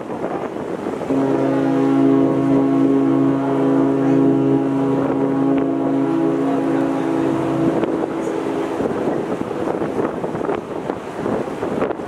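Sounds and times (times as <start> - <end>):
ship low drone: 0.0 - 12.0
wind on microphone: 0.0 - 12.0.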